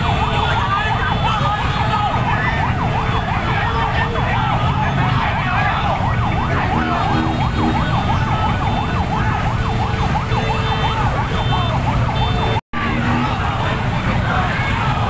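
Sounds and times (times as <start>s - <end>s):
siren yelping: 0.0s - 15.0s
traffic rumble: 0.0s - 15.0s.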